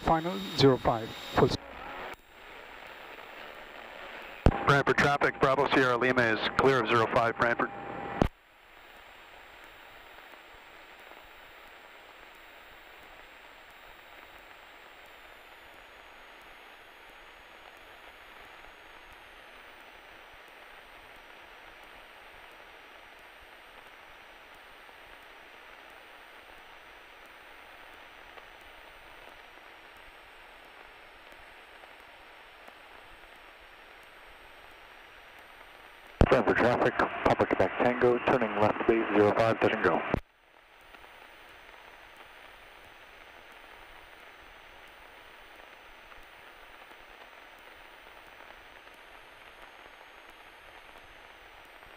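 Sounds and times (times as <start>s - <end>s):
high electrical whine: 0.0s - 51.9s
radio hiss: 0.0s - 51.9s.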